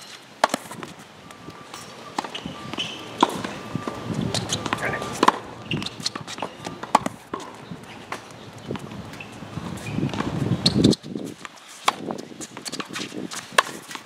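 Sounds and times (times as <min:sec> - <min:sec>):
tennis balls struck by rackets: 0:00.0 - 0:14.0
balls bouncing on hard court: 0:01.7 - 0:14.0
quick footsteps on court: 0:01.7 - 0:14.0.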